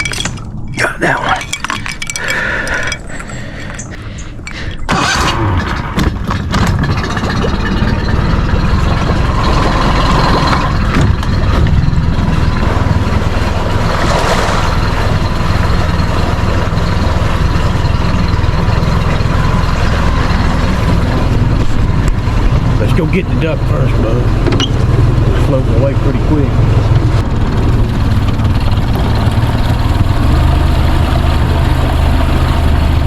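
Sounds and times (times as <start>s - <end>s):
boat motor running: 0.0s - 33.0s.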